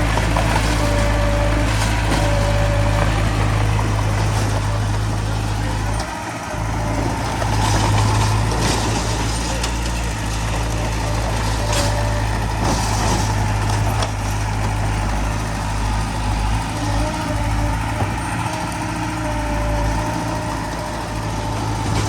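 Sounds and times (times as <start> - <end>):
diesel machinery humming: 0.0 - 22.0.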